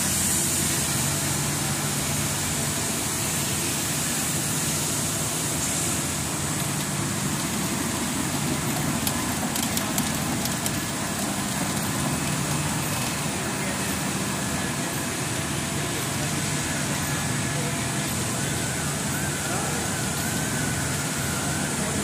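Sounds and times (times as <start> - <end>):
high hiss: 0.0 - 22.0
machine hum: 0.0 - 22.0.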